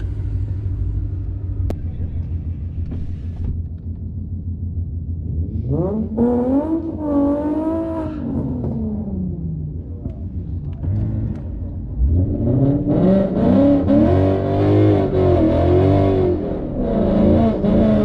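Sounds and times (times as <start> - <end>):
car engine rumbling and revving: 0.0 - 18.0.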